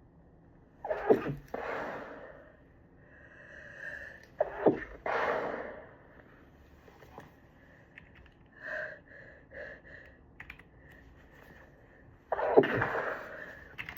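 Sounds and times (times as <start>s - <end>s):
soft breaths: 1.4s - 13.9s.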